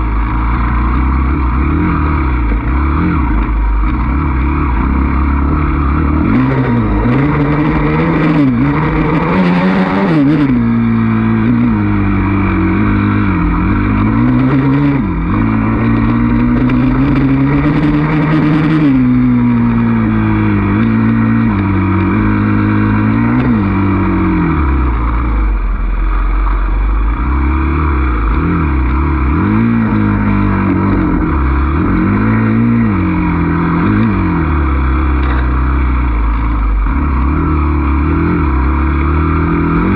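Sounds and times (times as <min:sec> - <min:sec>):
dirt bike engine revving: 0:00.0 - 0:26.2, 0:27.1 - 0:39.9.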